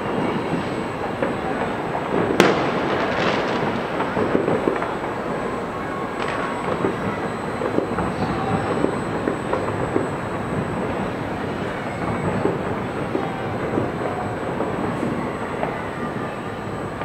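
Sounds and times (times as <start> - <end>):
steady rumble: 0.0 - 15.2
fireworks popping and crackling: 0.0 - 17.0
sharp firework bang: 0.0 - 17.0.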